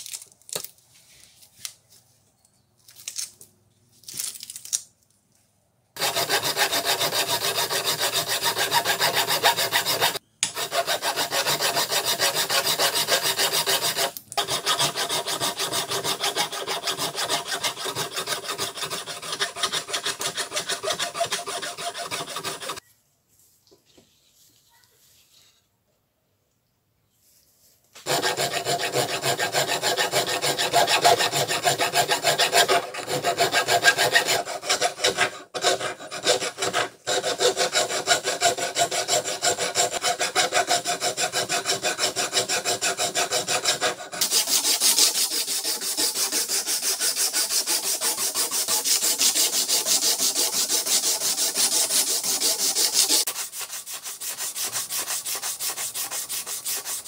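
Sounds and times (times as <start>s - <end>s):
file rasping on wood: 6.0s - 22.8s, 28.0s - 57.0s.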